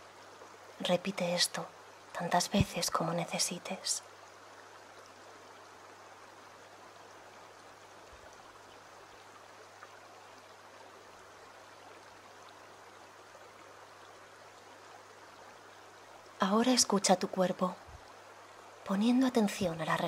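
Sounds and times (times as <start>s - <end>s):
stream flowing over stones: 0.0s - 20.0s.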